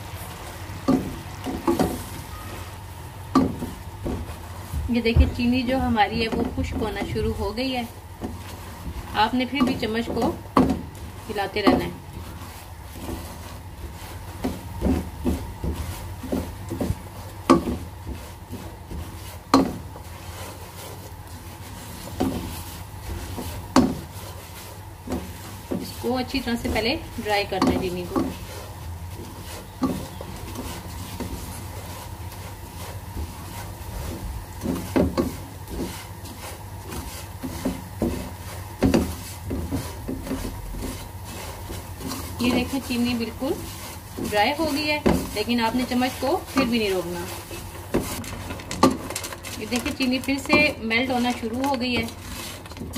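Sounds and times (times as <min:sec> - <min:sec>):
spatula scraping in pan: 0:00.0 - 0:52.9.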